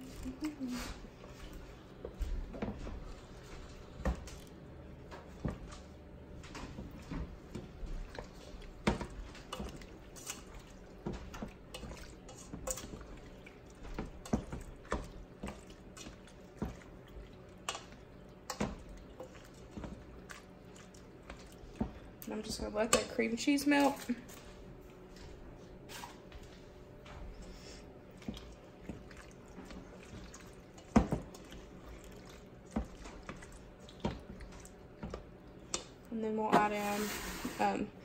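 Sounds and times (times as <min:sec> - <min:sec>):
wet squishing of macaroni: 0:00.0 - 0:26.5, 0:27.1 - 0:36.1.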